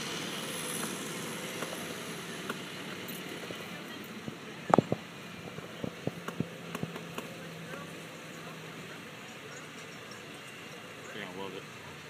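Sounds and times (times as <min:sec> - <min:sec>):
distant tractor engine running: 0:00.0 - 0:12.0.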